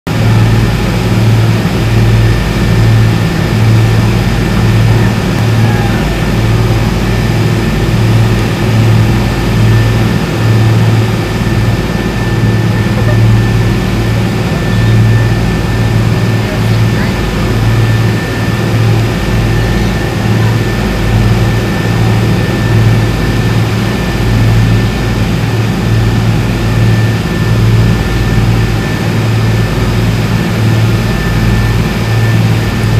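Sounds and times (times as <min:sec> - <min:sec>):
boat engine humming: 0:00.1 - 0:32.9.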